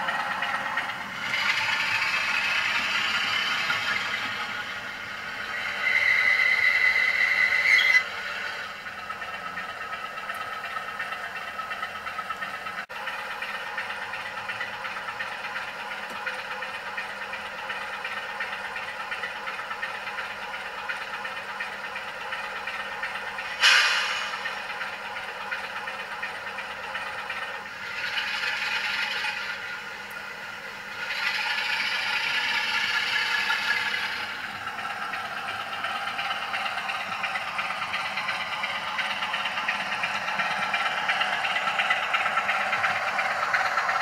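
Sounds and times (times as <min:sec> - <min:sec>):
model diesel engine through speaker: 0:00.0 - 0:44.0
wheel and track clatter: 0:00.0 - 0:44.0.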